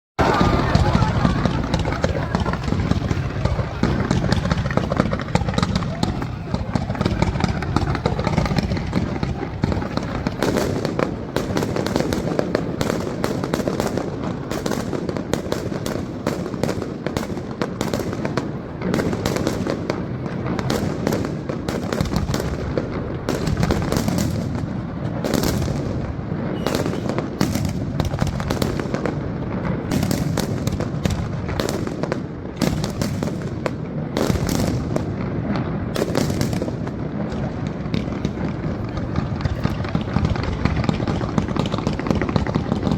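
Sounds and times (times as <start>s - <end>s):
fireworks bangs and crackles: 0.2s - 42.9s.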